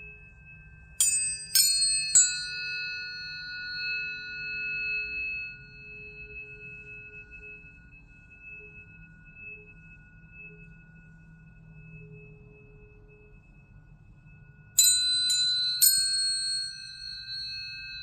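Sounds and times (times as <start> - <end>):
tuning forks ringing pure tones: 0.0 - 18.0
tuning forks struck: 0.0 - 18.0.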